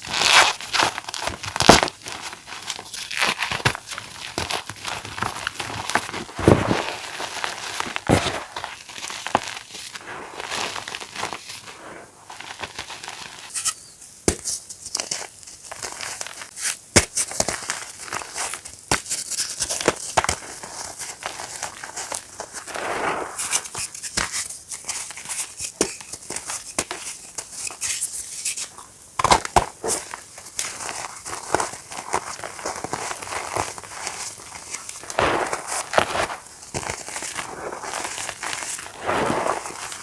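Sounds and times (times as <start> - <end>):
chalk blocks crunching: 3.0 - 24.5, 28.6 - 40.0.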